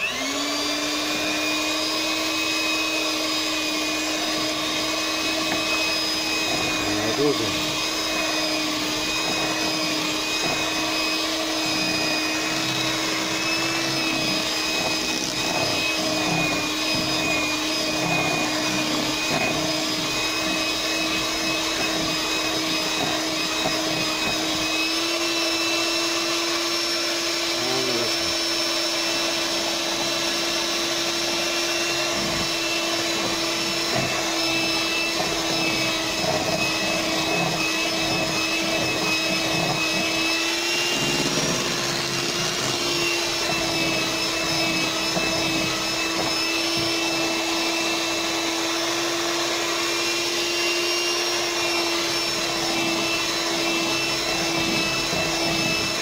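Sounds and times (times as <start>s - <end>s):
electric mixer motor whine: 0.0s - 56.0s.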